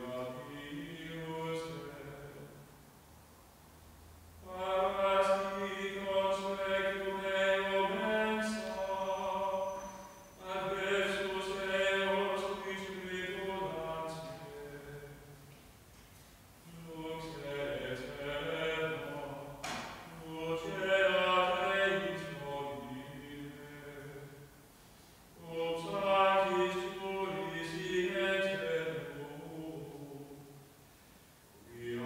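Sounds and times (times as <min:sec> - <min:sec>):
man singing unaccompanied: 0:00.0 - 0:02.7, 0:04.4 - 0:15.5, 0:16.6 - 0:24.6, 0:25.4 - 0:30.7, 0:31.6 - 0:32.0.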